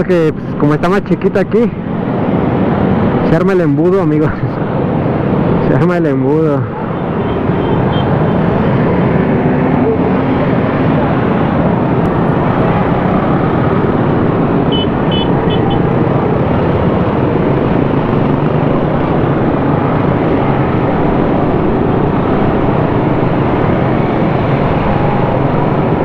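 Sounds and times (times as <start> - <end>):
motorcycle engines in traffic: 0.0 - 26.0.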